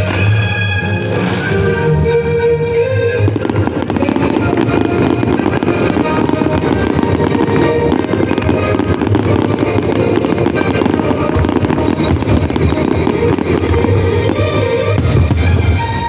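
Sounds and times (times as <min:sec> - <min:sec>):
fireworks bursting: 0:00.0 - 0:01.5, 0:03.2 - 0:16.0
music playing: 0:00.0 - 0:16.0.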